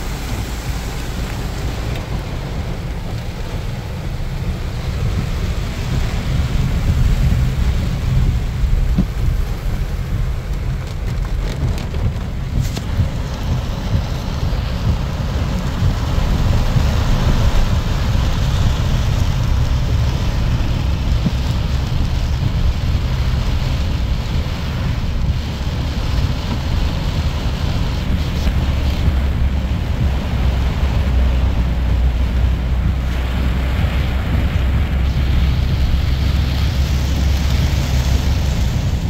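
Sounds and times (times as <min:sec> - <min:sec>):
rushing wind and rain: 0:00.0 - 0:39.0
wind buffeting microphone: 0:00.0 - 0:39.0.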